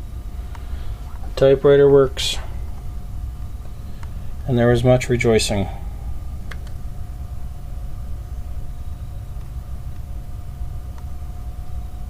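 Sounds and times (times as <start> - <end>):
faint whine: 0.0 - 12.0.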